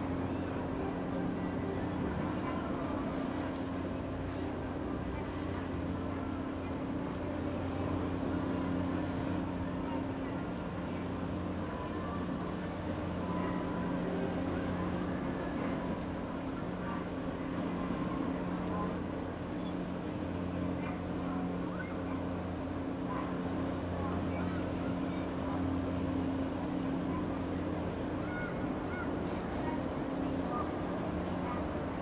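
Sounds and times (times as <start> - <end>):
boat engine droning: 0.0 - 32.0
faint voices: 0.0 - 32.0.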